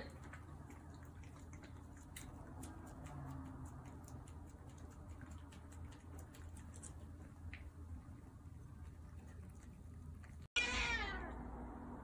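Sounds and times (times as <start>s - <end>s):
low hum: 0.2s - 12.0s.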